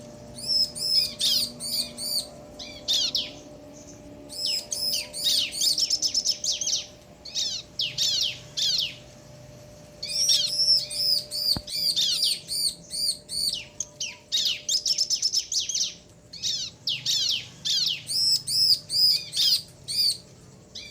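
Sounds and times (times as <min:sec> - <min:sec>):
birds chirping back and forth: 0:00.0 - 0:20.9.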